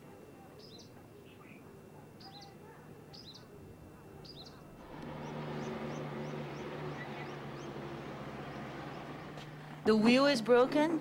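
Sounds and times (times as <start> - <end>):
steady low hum: 0.0 - 11.0
bird calling: 0.6 - 9.9.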